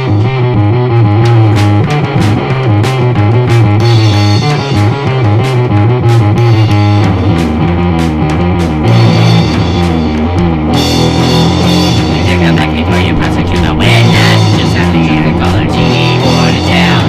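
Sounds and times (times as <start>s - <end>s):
rock music with guitar and drums: 0.0s - 17.0s.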